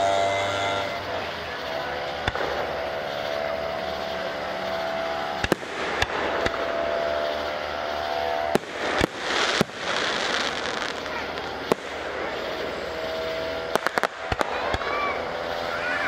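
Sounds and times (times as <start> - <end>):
fireworks bursting with bangs: 0.0 - 16.0
steady hum: 0.0 - 16.0.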